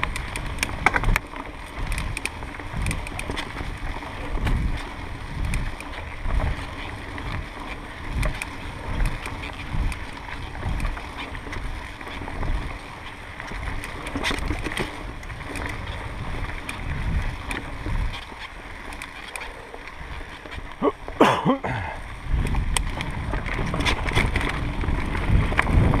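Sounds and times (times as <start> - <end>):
wind buffeting microphone: 0.0 - 18.9, 21.7 - 26.0
bike clicks and rattles: 0.0 - 26.0.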